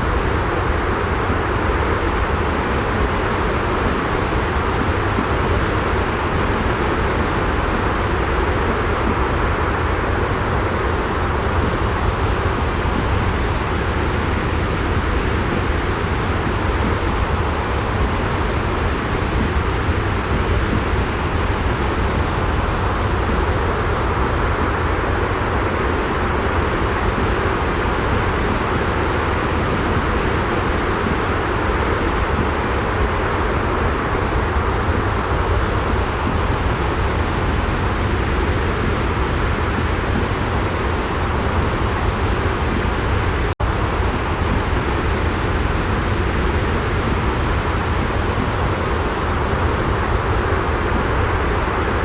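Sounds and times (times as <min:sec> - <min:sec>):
jet engine white noise: 0:00.0 - 0:52.0.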